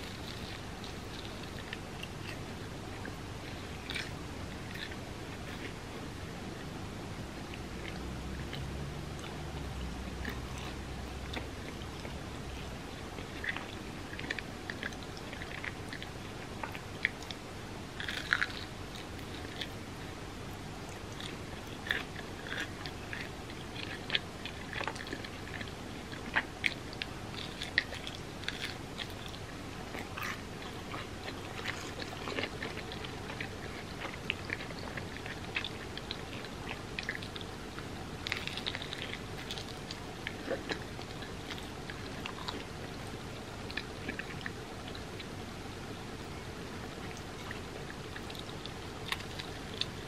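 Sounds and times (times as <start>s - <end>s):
crunchy chewing and biting: 0.0s - 6.7s, 7.4s - 45.4s, 46.8s - 50.0s
steady background hiss: 0.0s - 50.0s.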